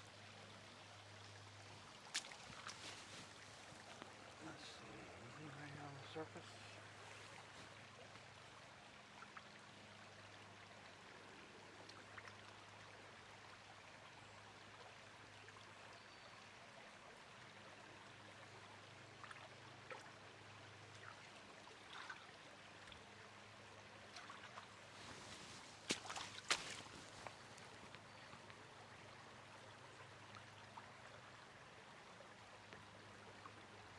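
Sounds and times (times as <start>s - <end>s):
creek water running: 0.0s - 33.9s.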